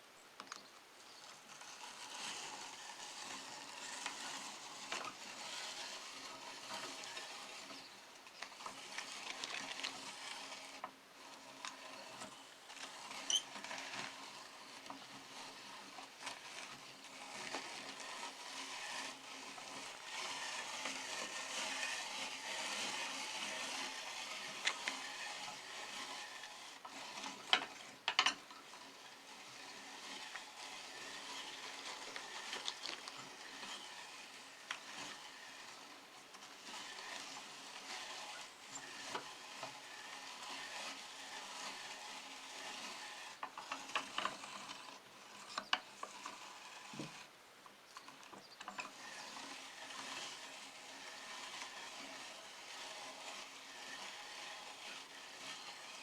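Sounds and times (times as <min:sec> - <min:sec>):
meat grinder crunching cookies: 0:00.4 - 0:56.0.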